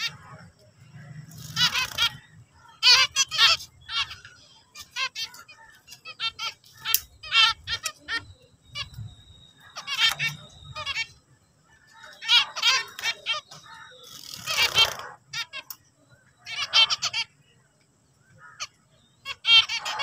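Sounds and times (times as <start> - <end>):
finches calling and singing: 0.0 - 20.0.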